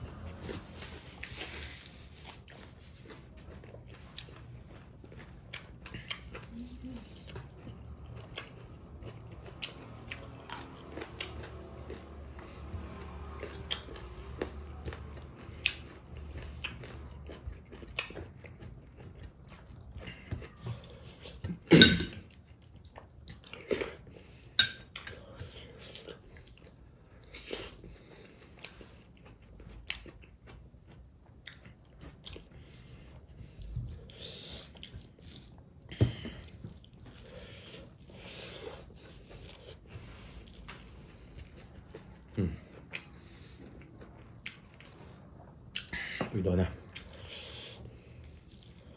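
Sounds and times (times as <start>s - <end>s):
person chewing food: 0.0s - 48.9s.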